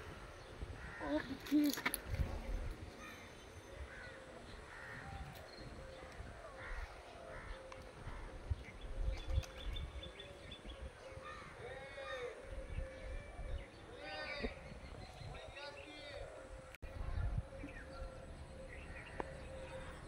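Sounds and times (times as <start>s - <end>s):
harsh bird calls: 0.0s - 20.0s.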